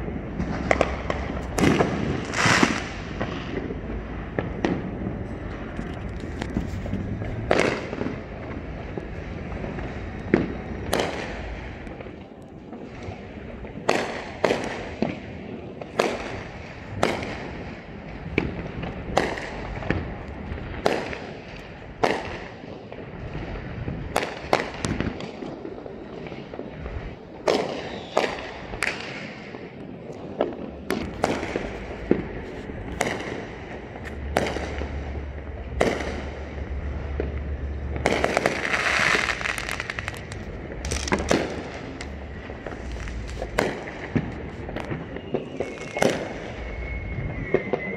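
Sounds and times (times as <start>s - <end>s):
dense firework crackle: 0.0s - 47.9s
fireworks exploding: 0.0s - 47.9s.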